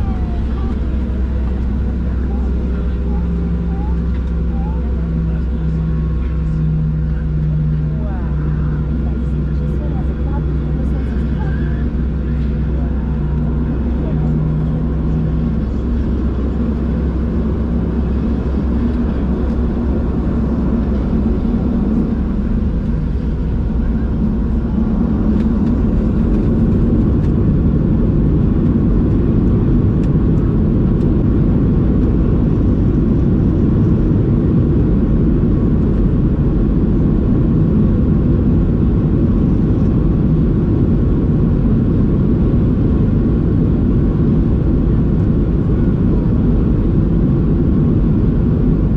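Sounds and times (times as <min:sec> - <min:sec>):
airplane cabin engine hum: 0:00.0 - 0:48.9
dense engine rumble: 0:00.0 - 0:48.9.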